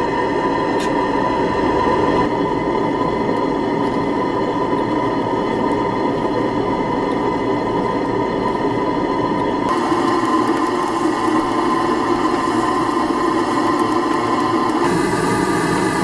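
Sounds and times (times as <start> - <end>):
model steam engine running: 0.0 - 16.0.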